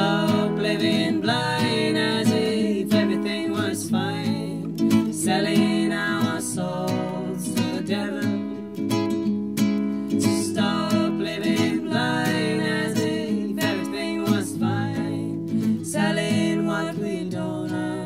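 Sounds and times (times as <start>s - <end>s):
acoustic guitar playing chords: 0.0s - 18.0s.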